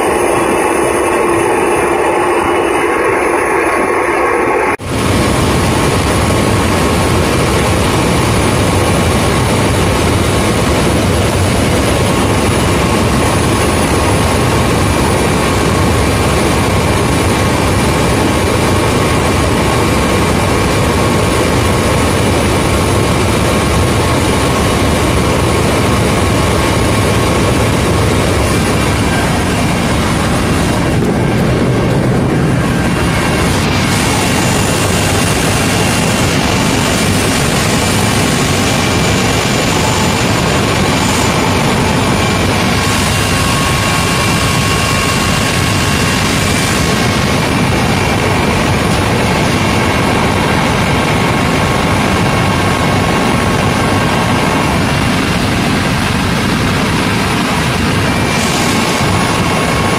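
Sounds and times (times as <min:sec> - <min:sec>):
helicopter engine and rotor noise: 0:00.0 - 0:59.9.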